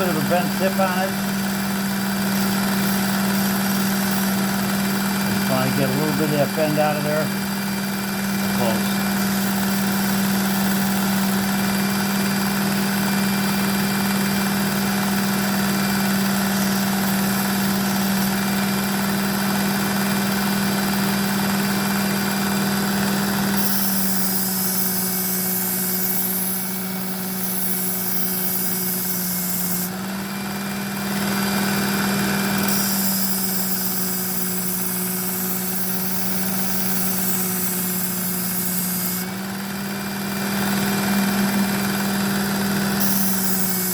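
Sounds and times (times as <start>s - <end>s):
knife grinding on abrasive belt: 0.0s - 19.4s, 23.0s - 43.9s
belt sharpener motor hum: 0.0s - 43.9s.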